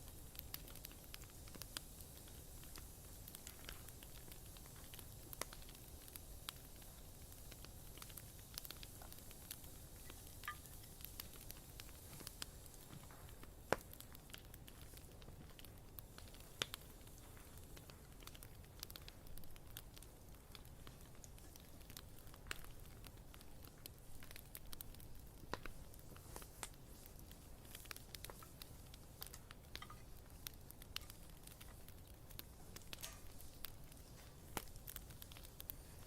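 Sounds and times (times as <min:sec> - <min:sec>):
bonfire crackling and popping: 0:00.0 - 0:36.0
faint low hiss: 0:00.0 - 0:36.0.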